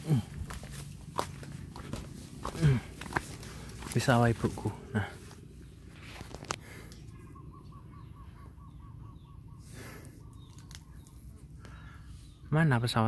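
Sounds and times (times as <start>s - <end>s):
low steady rumble: 0.0s - 12.4s.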